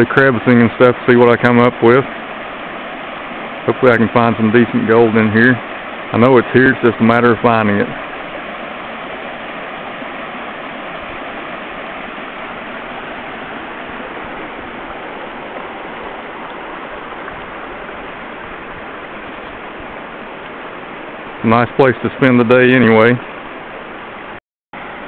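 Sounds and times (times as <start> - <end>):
creek flowing over stones: 0.0 - 25.0.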